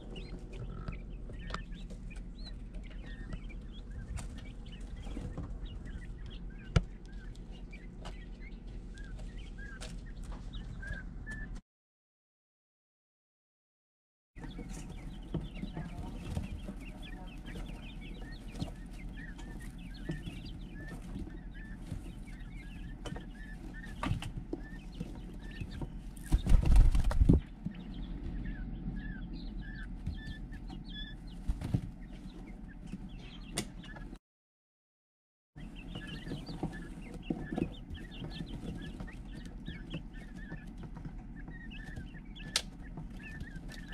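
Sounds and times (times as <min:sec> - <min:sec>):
quail chick peeping: 0:00.0 - 0:11.6, 0:14.4 - 0:34.2, 0:35.6 - 0:43.9.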